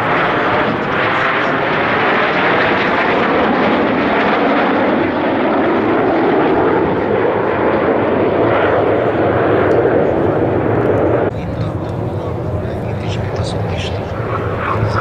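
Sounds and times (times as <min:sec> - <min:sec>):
jets flying over: 0:00.0 - 0:15.0.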